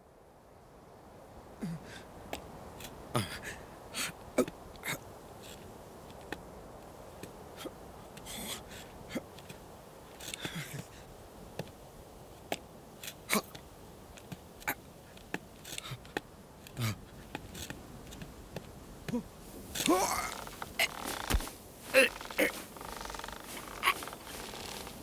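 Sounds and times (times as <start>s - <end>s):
faint steady background: 0.0s - 25.0s
hooves shifting on rock: 4.4s - 25.0s.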